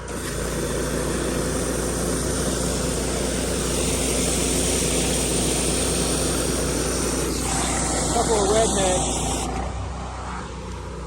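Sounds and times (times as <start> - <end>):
high-pressure water hissing: 0.0 - 9.6
pressure washer engine droning: 0.0 - 11.0.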